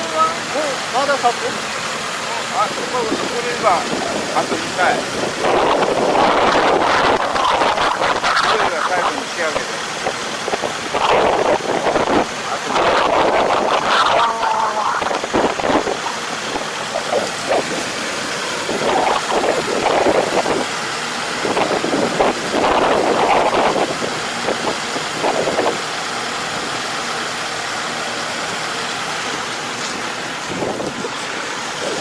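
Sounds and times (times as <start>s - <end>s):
farm machine engine running: 0.0s - 32.0s
wind buffeting microphone: 1.4s - 27.2s, 30.4s - 32.0s.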